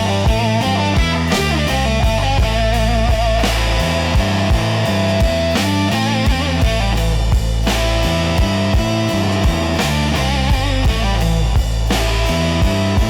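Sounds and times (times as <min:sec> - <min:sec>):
bass line: 0:00.0 - 0:13.0
electric guitar lead: 0:00.0 - 0:13.0
steady drum beat: 0:00.0 - 0:13.0.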